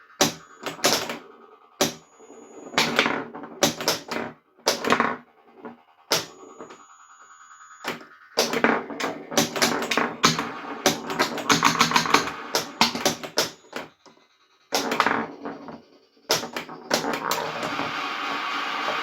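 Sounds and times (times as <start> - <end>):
pinball flippers clicking and knocking: 0.2 - 1.2, 1.8 - 2.0, 2.6 - 6.8, 7.9 - 14.1, 14.7 - 19.0.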